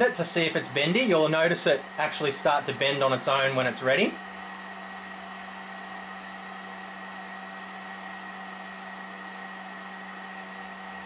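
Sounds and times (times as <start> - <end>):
heat gun blowing air: 0.0 - 11.0
heat gun hum: 0.0 - 11.0.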